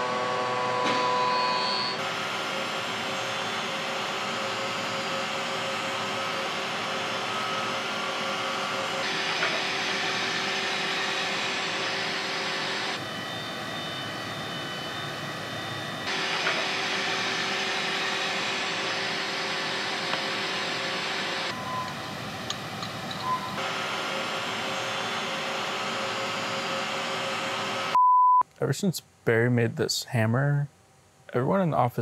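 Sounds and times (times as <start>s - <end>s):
machining center running: 0.0s - 28.0s.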